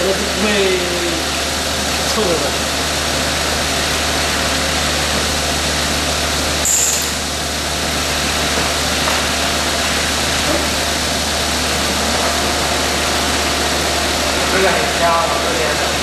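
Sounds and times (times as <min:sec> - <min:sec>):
machine hum: 0:00.0 - 0:16.0
milling machine cutting metal: 0:00.0 - 0:16.0.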